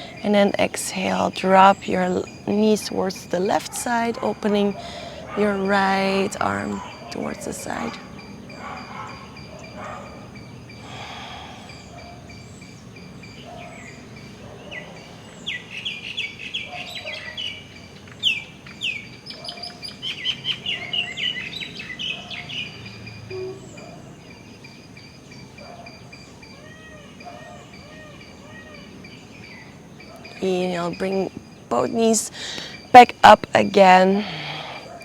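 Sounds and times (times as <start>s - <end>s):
birds chirping: 0.0s - 35.0s
faint background noise: 0.0s - 35.0s.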